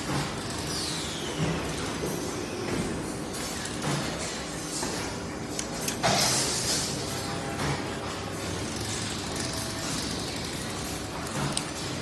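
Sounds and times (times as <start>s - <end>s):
factory background hum: 0.0s - 12.0s.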